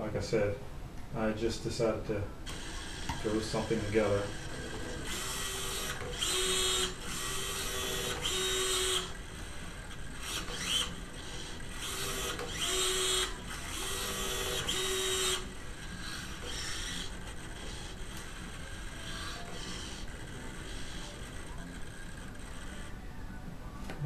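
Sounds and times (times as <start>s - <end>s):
electric actuator whirring: 2.4s - 23.1s.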